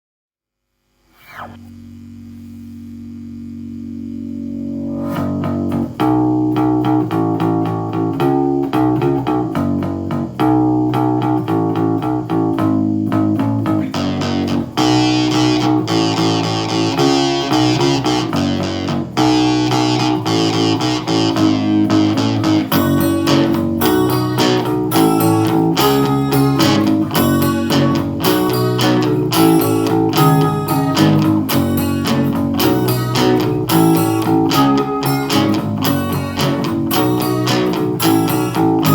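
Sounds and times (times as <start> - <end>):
instrumental guitar music with bass: 1.3 - 38.9.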